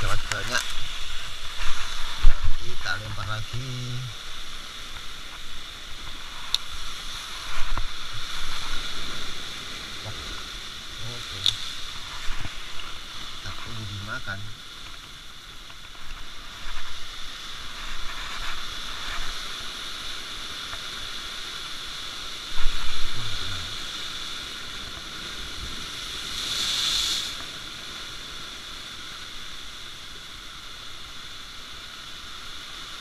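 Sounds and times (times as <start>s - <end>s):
waves washing over rocks: 0.0s - 33.0s.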